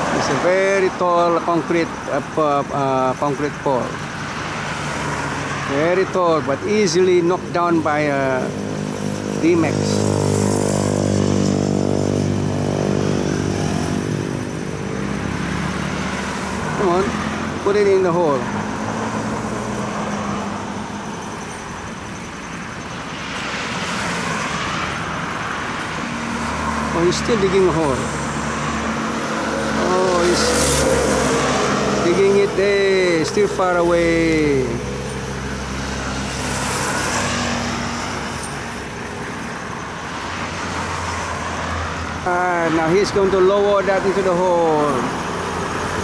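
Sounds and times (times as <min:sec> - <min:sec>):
highway traffic passing: 0:00.0 - 0:46.0.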